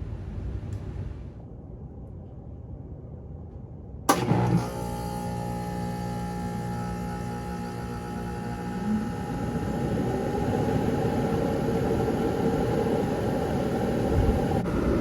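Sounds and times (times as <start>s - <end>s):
air conditioner fan and compressor: 0.0s - 15.0s.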